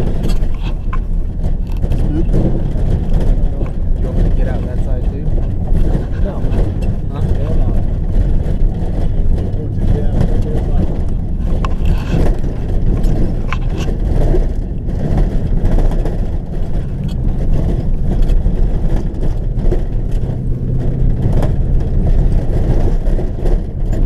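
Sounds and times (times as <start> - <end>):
light rattles and clicks: 0.0 - 24.0
vehicle engine and road rumble: 0.0 - 24.0.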